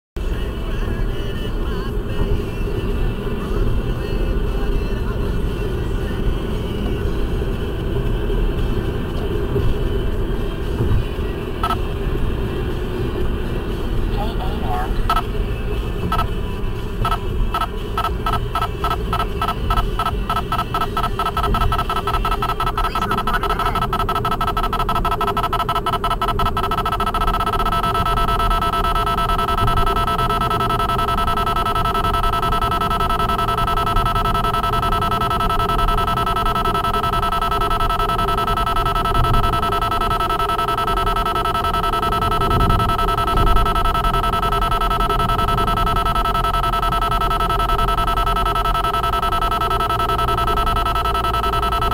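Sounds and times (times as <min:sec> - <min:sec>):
car road noise: 0:00.2 - 0:49.5
radar detector beeping: 0:08.5 - 0:12.0, 0:12.7 - 0:51.9.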